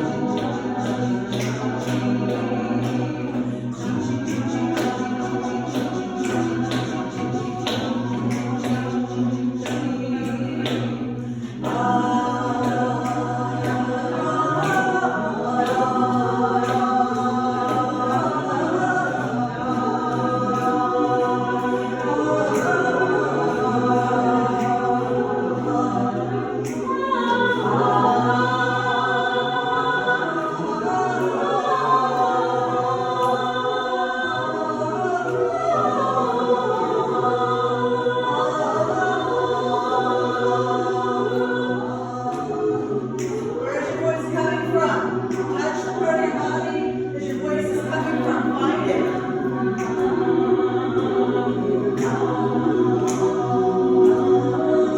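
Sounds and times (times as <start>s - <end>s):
choir singing in harmony: 0.0s - 54.9s.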